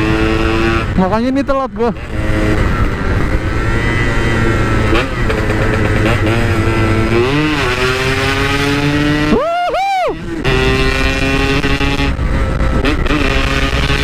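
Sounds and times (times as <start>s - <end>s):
motorcycle engine revving: 0.0s - 9.4s, 10.0s - 14.0s.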